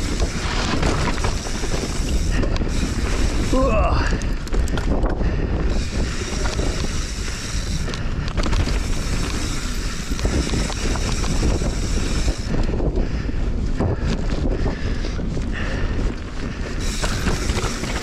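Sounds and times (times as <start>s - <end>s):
bike rattling and knocking: 0.0s - 18.0s
tyres on dirt trail: 0.0s - 18.0s
wind buffeting microphone: 0.0s - 18.0s.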